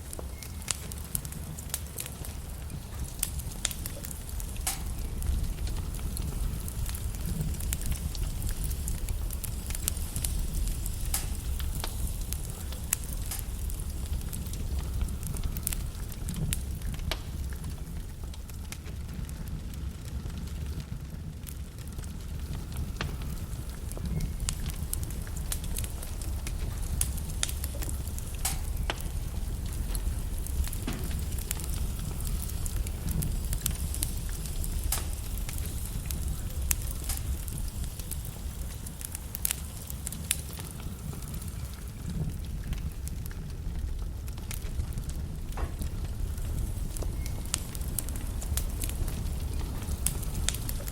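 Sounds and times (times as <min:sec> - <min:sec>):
logs crackling in fireplace: 0:00.0 - 0:50.9
low fire rumble: 0:00.0 - 0:50.9
sharp fire pops: 0:00.0 - 0:50.9.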